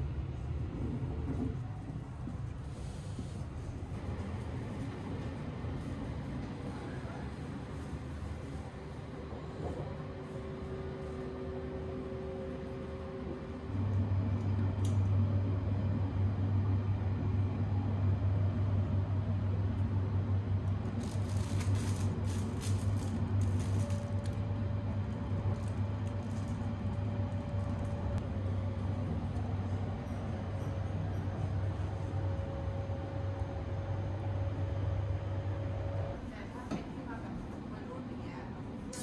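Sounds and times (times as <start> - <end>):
train running low hum: 0.0 - 39.0.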